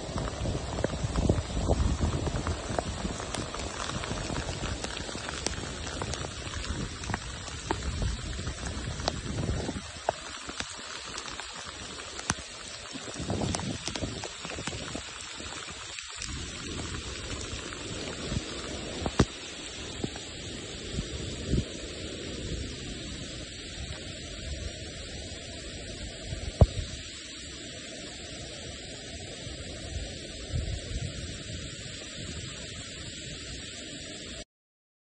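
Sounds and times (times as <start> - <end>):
heavy rain in wind: 0.0 - 34.4.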